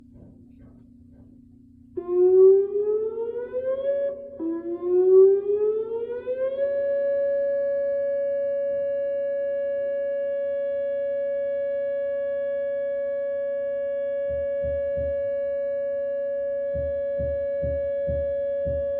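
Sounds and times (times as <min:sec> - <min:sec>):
electronic warning siren: 0:02.0 - 0:18.9.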